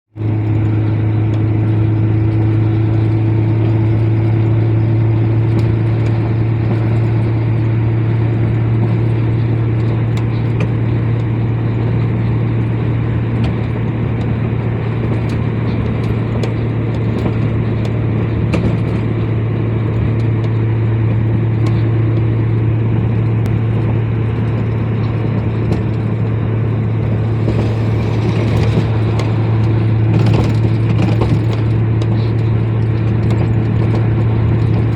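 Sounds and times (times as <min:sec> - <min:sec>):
road and tyre noise: 0:00.1 - 0:34.9
truck engine drone: 0:00.1 - 0:34.9.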